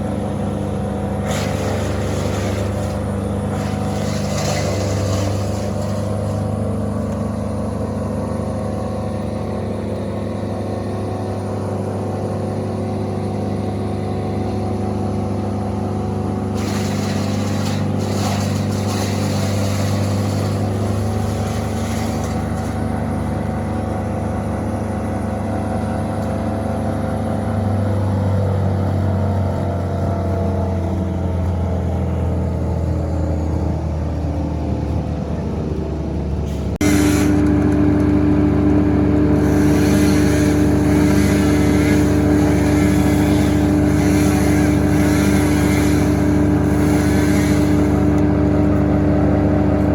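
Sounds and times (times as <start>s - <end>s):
large engine running steadily: 0.0s - 49.9s.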